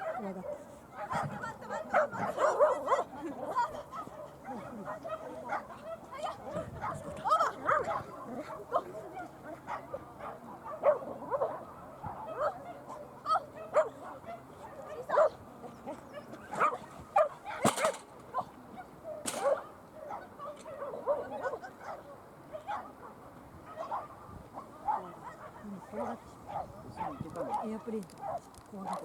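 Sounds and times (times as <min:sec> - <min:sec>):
dog barking and yipping: 0:00.0 - 0:18.5, 0:19.1 - 0:23.1, 0:23.7 - 0:29.0.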